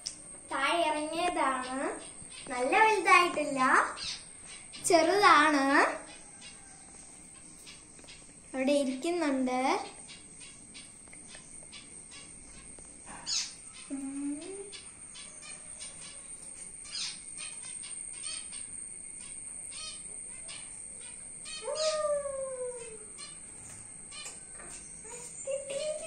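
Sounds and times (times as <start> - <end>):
low sweeping calls: 0.0 - 26.0
small birds chirping: 0.0 - 26.0.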